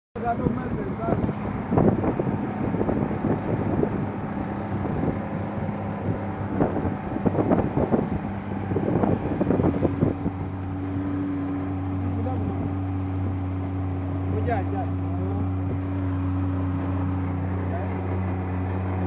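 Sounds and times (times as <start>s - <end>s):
speedboat engine droning: 0.2s - 19.0s
wind buffeting microphone: 0.2s - 19.0s.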